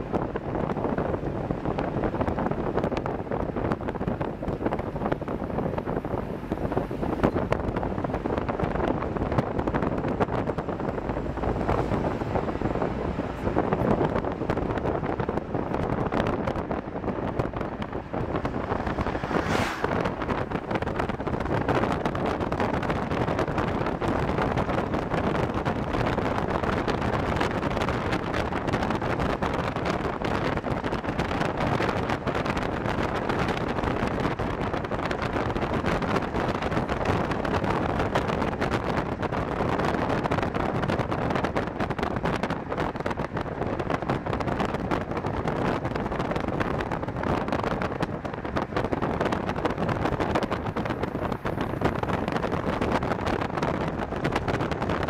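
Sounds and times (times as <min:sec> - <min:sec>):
vehicle road noise: 0:00.0 - 0:55.0
wind rushing over microphone: 0:00.0 - 0:55.0.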